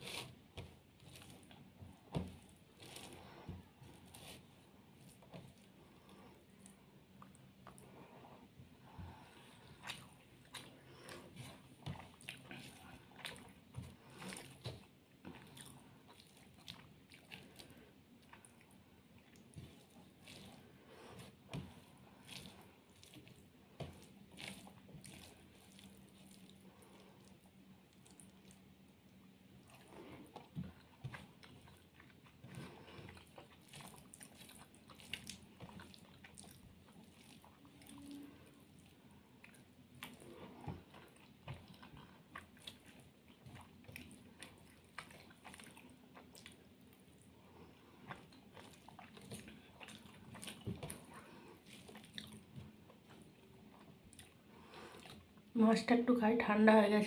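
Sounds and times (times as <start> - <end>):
person chewing: 9.1 - 55.5.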